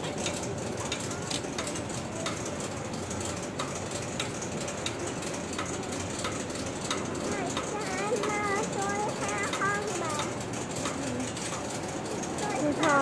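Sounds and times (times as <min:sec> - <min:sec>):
workshop background noise: 0:00.0 - 0:13.0.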